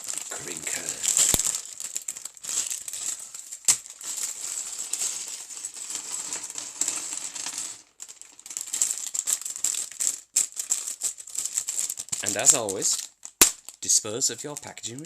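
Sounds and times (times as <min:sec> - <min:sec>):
plastic pieces clattering: 0:00.0 - 0:13.8.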